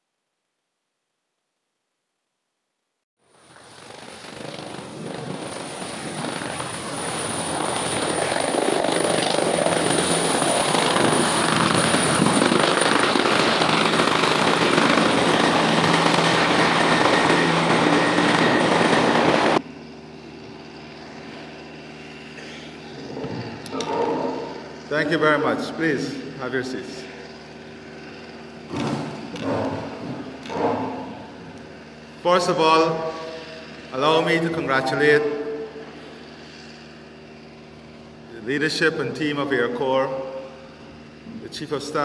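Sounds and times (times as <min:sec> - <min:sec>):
helicopter rotor and engine noise: 0:03.2 - 0:42.0
thin high whine: 0:03.3 - 0:42.0.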